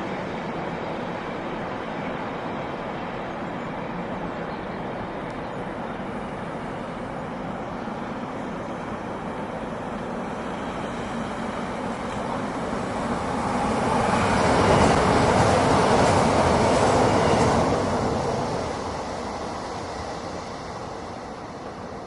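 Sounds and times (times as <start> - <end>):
train rumble approaching: 0.0 - 22.0.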